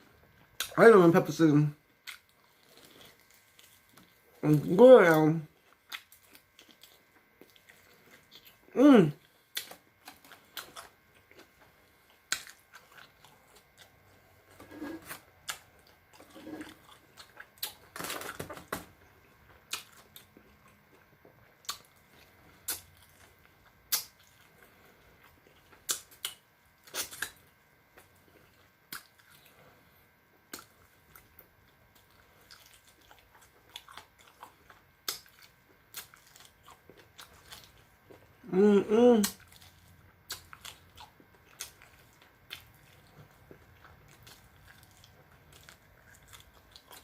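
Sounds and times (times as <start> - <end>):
chewing crispy food: 0.0 - 47.0.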